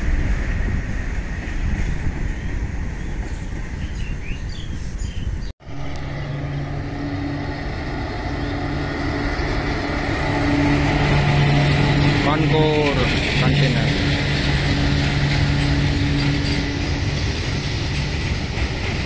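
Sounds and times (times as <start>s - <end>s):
electric locomotive hum: 0.0s - 19.0s.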